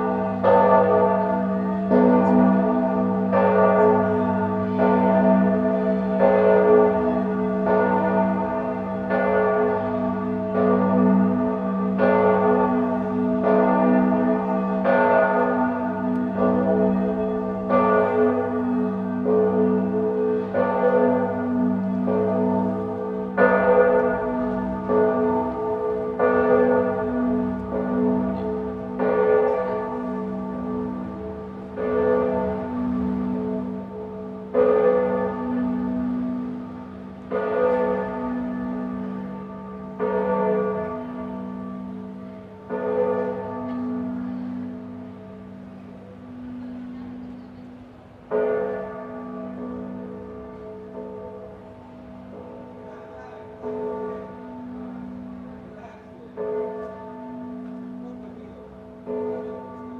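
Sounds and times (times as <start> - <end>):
church bell ringing: 0.0 - 59.9.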